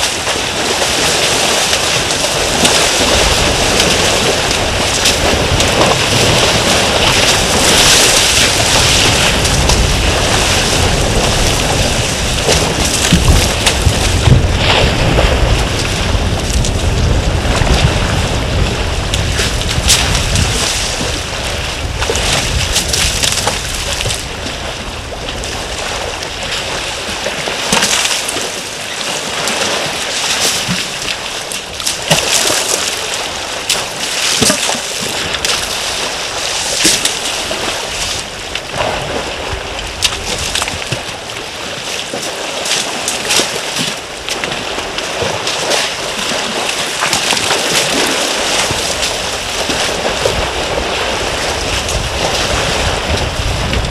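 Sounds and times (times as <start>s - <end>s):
elephants splashing in water: 0.0s - 53.9s.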